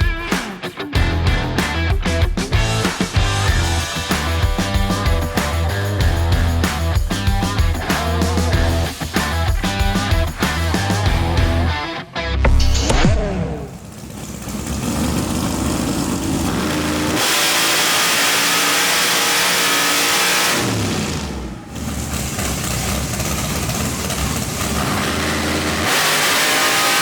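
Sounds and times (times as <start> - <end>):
engine revving: 1.0 - 11.8, 12.4 - 27.0.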